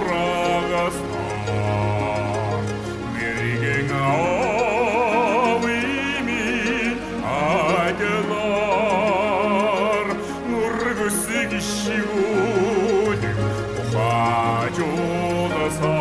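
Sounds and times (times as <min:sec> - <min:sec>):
man singing with vibrato: 0:00.0 - 0:16.0
sustained instrumental backing: 0:00.0 - 0:16.0.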